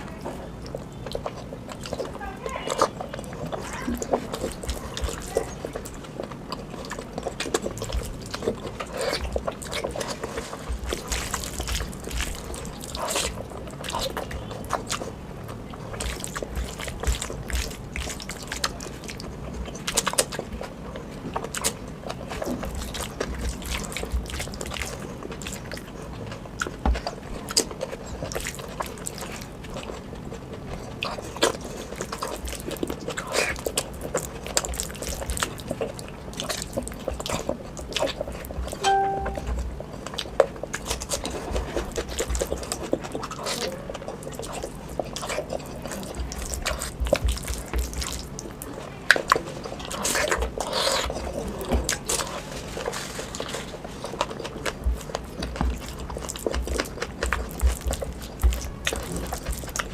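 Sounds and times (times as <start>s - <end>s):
wet chewing and lip smacking: 0.0s - 59.9s.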